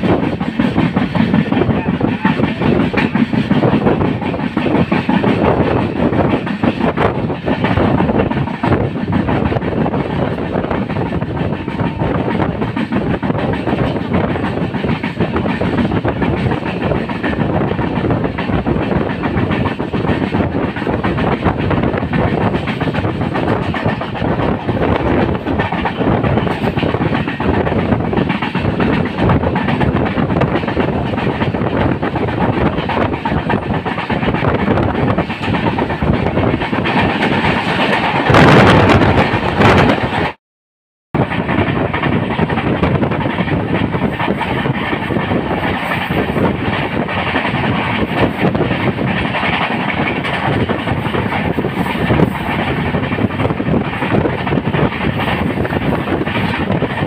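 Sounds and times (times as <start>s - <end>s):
train wheels rumbling on rails: 0.0s - 40.4s, 41.2s - 57.0s.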